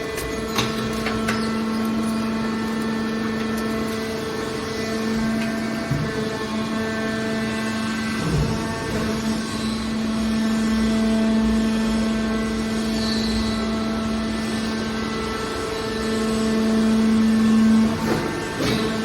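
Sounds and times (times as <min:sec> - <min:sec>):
hydraulic power unit droning: 0:00.0 - 0:19.0.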